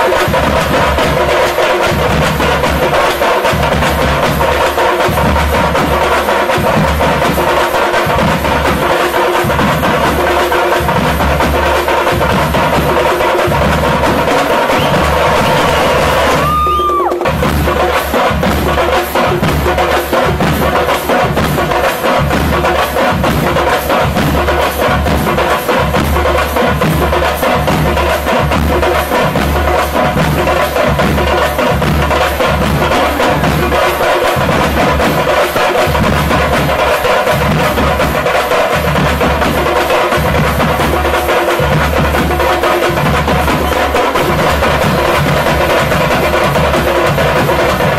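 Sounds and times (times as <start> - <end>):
drum-led percussion music: 0.0 - 47.9.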